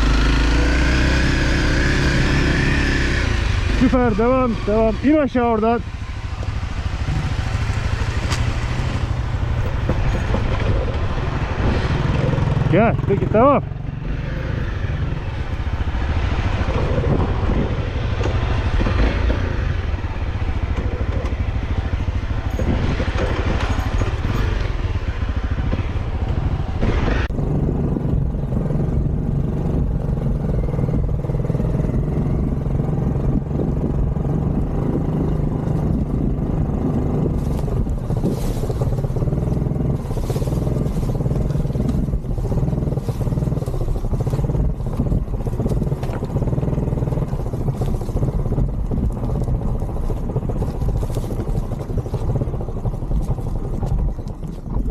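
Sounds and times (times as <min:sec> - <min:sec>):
off-road motorcycle engine: 0:00.0 - 0:54.9.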